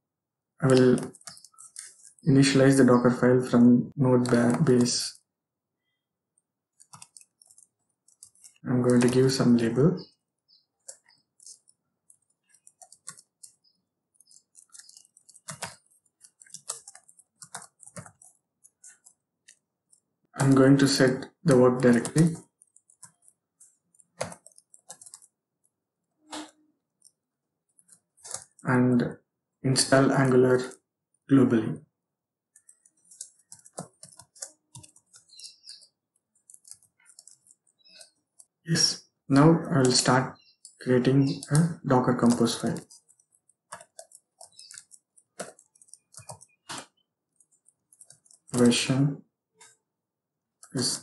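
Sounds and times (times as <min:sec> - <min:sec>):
computer keyboard typing: 0:00.6 - 0:02.8, 0:04.1 - 0:05.2, 0:06.4 - 0:28.7, 0:32.5 - 0:38.6, 0:39.7 - 0:48.9.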